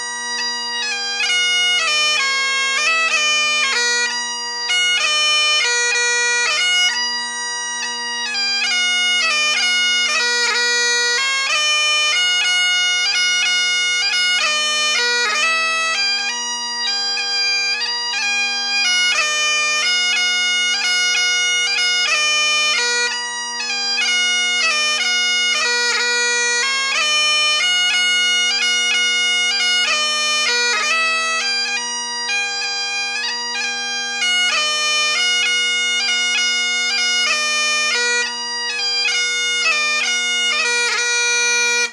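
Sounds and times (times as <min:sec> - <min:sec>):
bagpipe march tune: 0:00.0 - 0:41.9.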